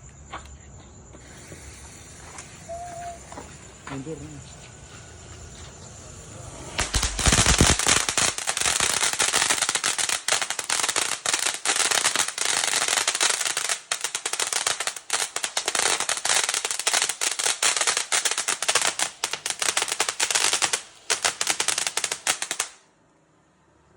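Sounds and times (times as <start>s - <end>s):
firework fountain hissing and crackling: 1.1s - 22.9s.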